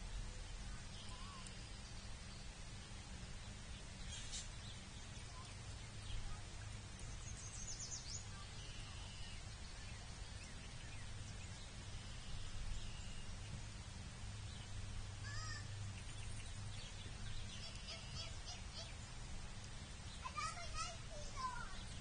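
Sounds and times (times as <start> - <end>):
low hum and hiss: 0.0 - 22.0
wild birds calling: 0.0 - 22.0.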